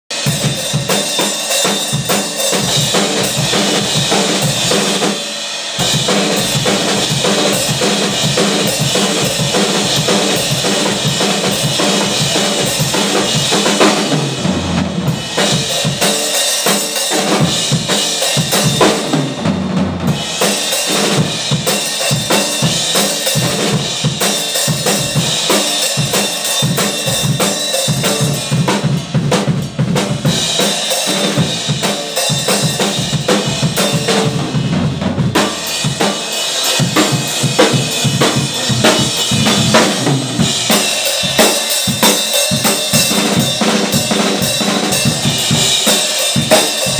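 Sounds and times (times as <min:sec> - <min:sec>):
drum kit playing: 0:00.1 - 0:46.9.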